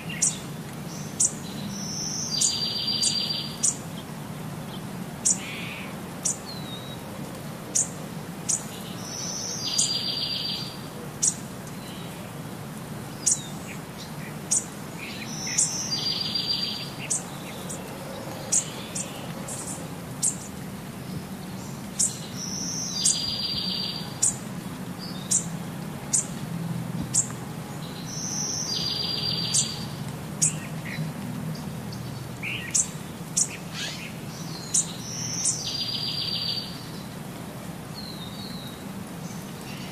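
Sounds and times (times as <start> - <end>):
birds chirping: 0.0 - 12.4, 13.0 - 37.2, 37.9 - 39.9.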